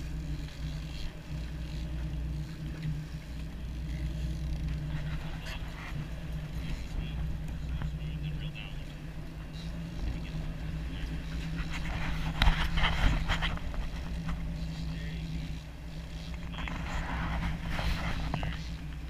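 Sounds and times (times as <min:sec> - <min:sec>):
boat engine running: 0:00.0 - 0:19.0
wind: 0:00.0 - 0:19.0.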